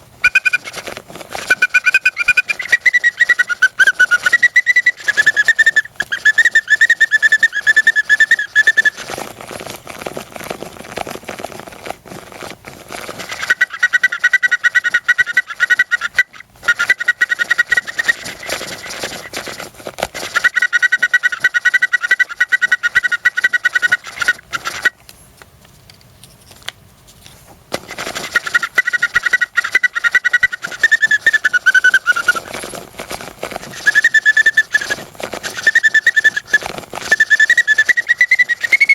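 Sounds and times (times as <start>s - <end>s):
bird organ playing shrill trills: 0.2s - 9.9s, 13.2s - 24.9s, 28.1s - 32.8s, 33.5s - 38.9s.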